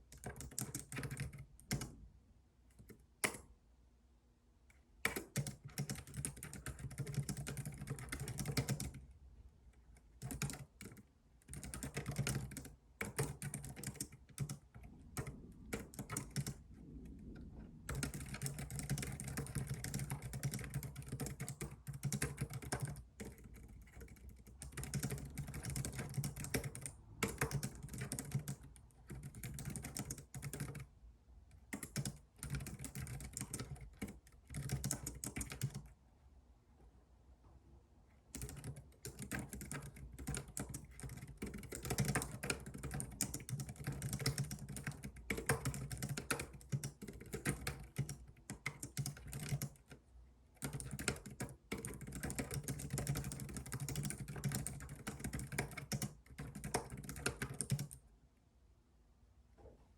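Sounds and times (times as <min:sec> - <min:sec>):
computer keyboard typing: 0:00.0 - 0:02.0, 0:02.8 - 0:03.5, 0:05.0 - 0:09.1, 0:09.9 - 0:30.9, 0:31.5 - 0:35.9, 0:38.3 - 0:50.0, 0:50.6 - 0:58.0.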